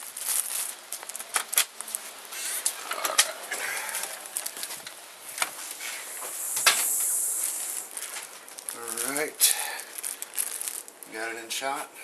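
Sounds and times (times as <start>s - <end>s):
plastic bag crinkling: 0.0s - 6.2s, 6.8s - 11.9s.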